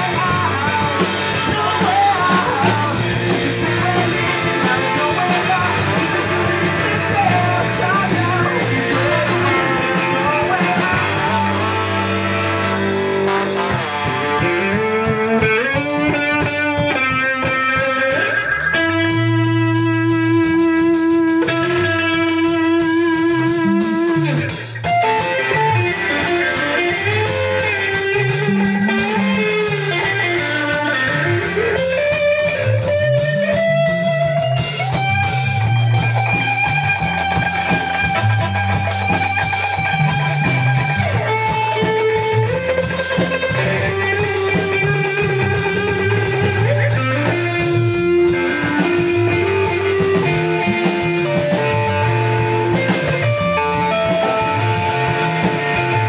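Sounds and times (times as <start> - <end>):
electric guitar lead line: 0.0 - 56.0
ska-punk band playing live: 0.0 - 56.0.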